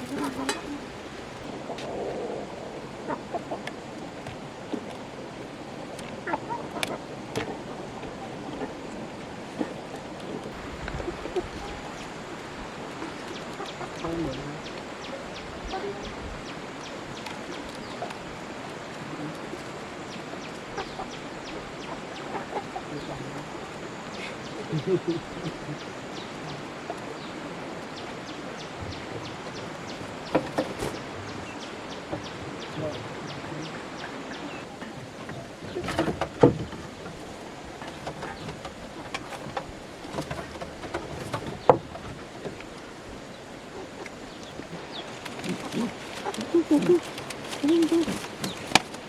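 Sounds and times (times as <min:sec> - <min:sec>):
chickens peeping: 0:00.0 - 0:04.9, 0:06.2 - 0:49.0.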